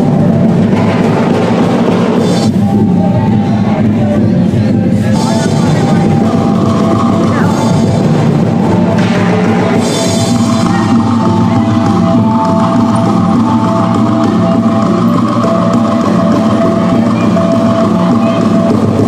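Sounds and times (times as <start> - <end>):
drums and percussion: 0.0 - 19.0
sustained ringing notes: 0.0 - 19.0.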